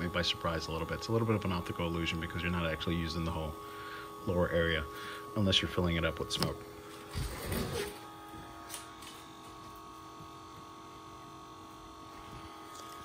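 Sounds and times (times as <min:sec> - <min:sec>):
electric fuel pump humming: 0:00.0 - 0:13.0.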